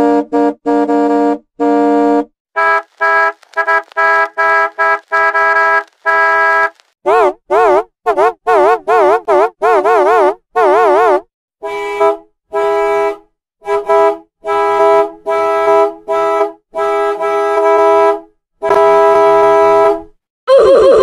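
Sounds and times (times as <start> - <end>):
bus air horn honking: 0.0 - 11.0, 11.6 - 20.1.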